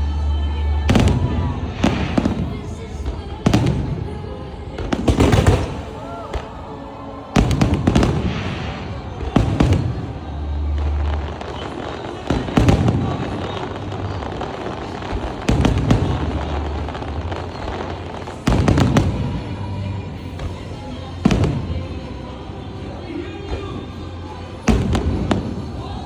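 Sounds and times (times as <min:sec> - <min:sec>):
faint music: 0:00.0 - 0:26.0
fireworks bursting with bangs: 0:00.0 - 0:26.0
low rumbling echo: 0:00.0 - 0:26.0.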